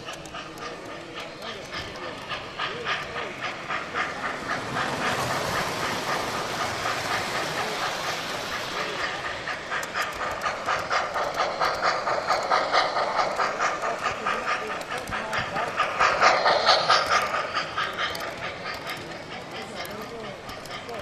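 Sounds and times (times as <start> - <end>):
hiss: 0.0 - 21.0
train running rhythmic beat: 0.0 - 21.0.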